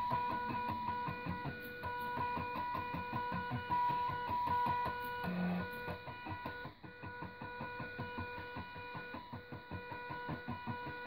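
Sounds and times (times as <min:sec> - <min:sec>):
stepper motor whine: 0:00.0 - 0:11.0.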